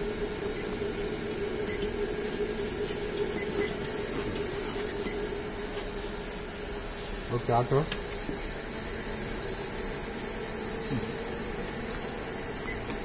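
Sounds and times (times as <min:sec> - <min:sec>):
stamping press humming and hissing: 0:00.0 - 0:13.0.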